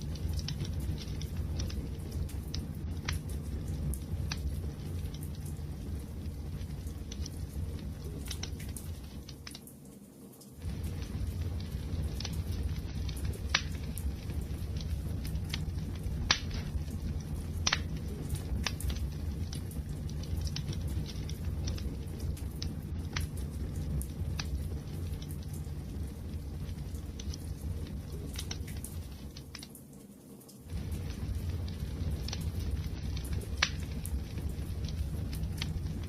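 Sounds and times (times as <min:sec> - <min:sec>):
fire rumbling: 0:00.0 - 0:09.6, 0:10.6 - 0:29.7, 0:30.6 - 0:36.0
fire crackling and popping: 0:00.0 - 0:36.0.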